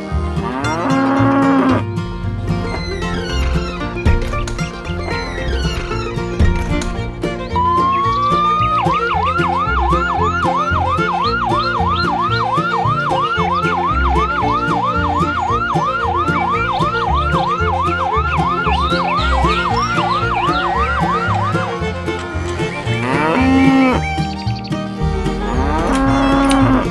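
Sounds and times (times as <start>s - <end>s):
background music with steady beat: 0.0s - 26.9s
ambulance siren yelping: 2.6s - 26.9s.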